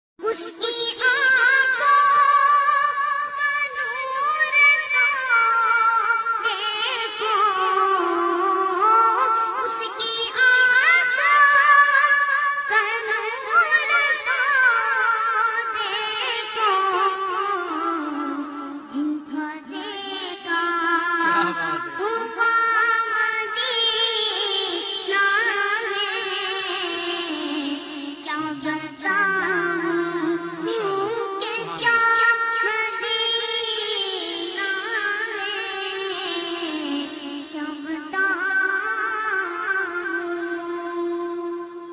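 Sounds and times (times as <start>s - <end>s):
high-pitched devotional singing: 0.2s - 41.9s.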